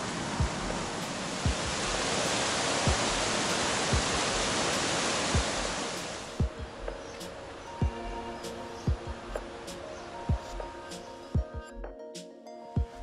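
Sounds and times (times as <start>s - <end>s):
stream rushing over rocks: 0.0s - 10.8s.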